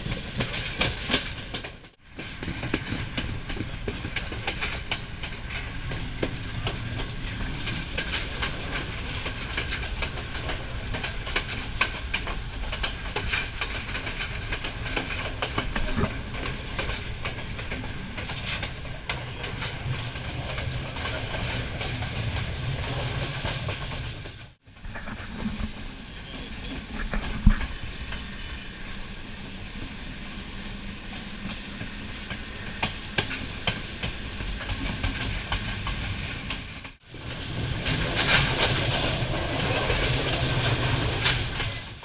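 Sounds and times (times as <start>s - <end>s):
wheels clattering over rails: 0.0s - 25.8s, 31.1s - 42.0s
train rumbling: 0.0s - 42.0s.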